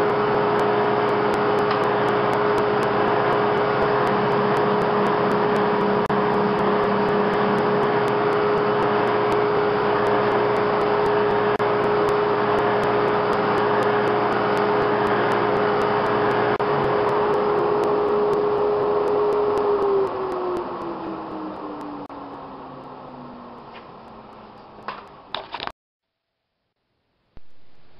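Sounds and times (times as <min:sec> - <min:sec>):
board fed through sander: 0:00.0 - 0:23.2
drum sander running: 0:00.0 - 0:24.4
dust collector rushing noise: 0:00.0 - 0:24.5.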